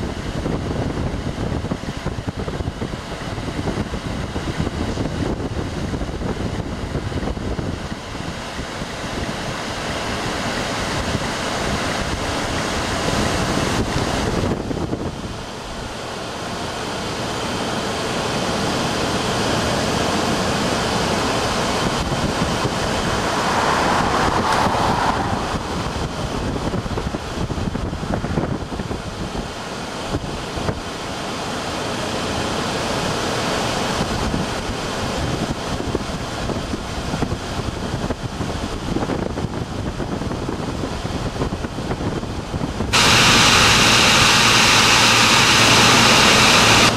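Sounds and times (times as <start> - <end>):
wind rushing over microphone: 0.0 - 16.7, 19.5 - 31.0, 33.8 - 46.9
car road noise: 0.0 - 46.9.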